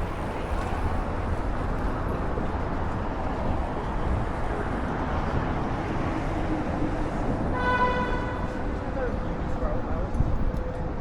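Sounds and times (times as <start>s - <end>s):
traffic rumble and hiss: 0.0s - 11.0s.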